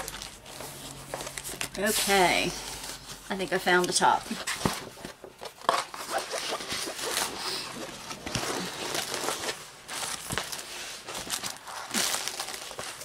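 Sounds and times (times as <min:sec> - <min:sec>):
paper cover rustling and crinkling: 0:00.0 - 0:13.0.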